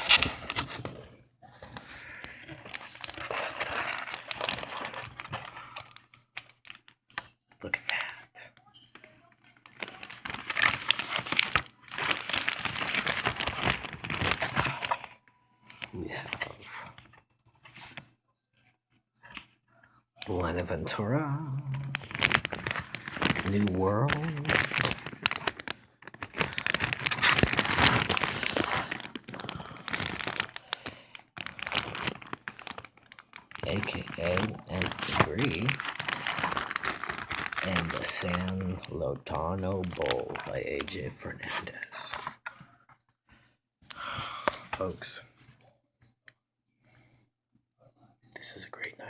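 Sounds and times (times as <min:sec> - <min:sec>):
packaging crinkling and rustling: 0:00.0 - 0:07.3, 0:09.0 - 0:18.1, 0:20.2 - 0:42.7, 0:44.4 - 0:45.2.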